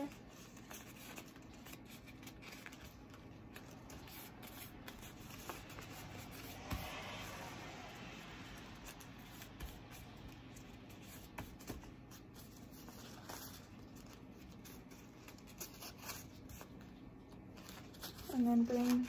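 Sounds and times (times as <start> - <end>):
rustling of wrap: 0.0 - 19.0.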